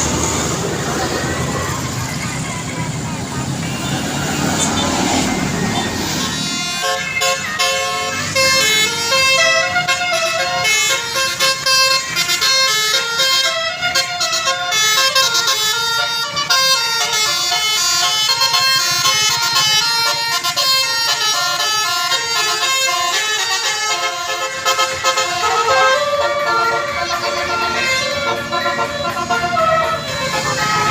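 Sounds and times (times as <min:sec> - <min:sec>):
multi-tone bus air horn melody: 0:00.0 - 0:30.9.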